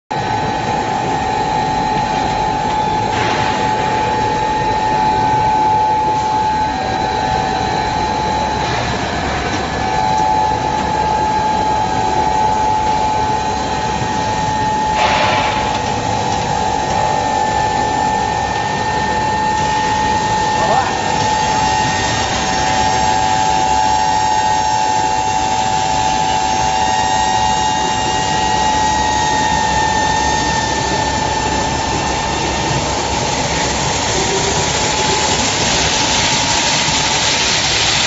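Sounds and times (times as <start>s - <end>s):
extrusion machine running: 0.1s - 38.0s
high machine whine: 0.1s - 38.0s.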